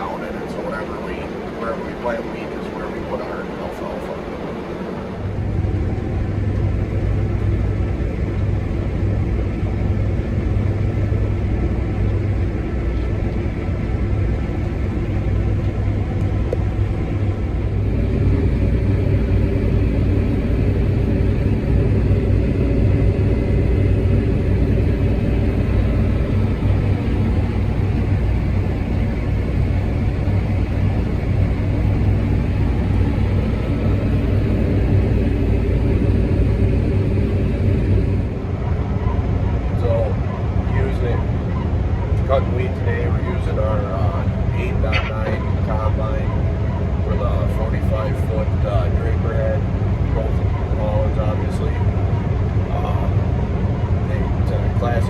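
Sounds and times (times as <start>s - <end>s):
combine harvester engine rumble: 0.0s - 55.0s.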